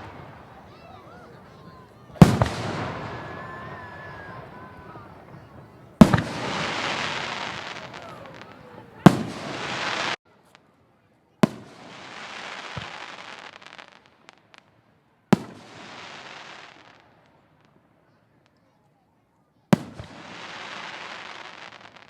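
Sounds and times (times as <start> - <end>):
fireworks bangs: 0.0 - 10.2, 11.4 - 14.7, 15.4 - 17.7, 19.8 - 22.0
fireworks crackling hiss: 0.0 - 10.7, 11.4 - 14.7, 15.4 - 17.7, 19.8 - 22.0.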